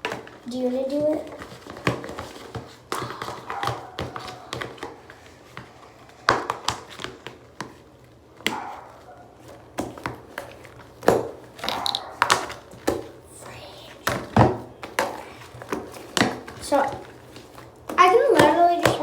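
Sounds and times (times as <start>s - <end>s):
clicks and taps on containers: 0.0s - 7.8s, 9.7s - 19.0s.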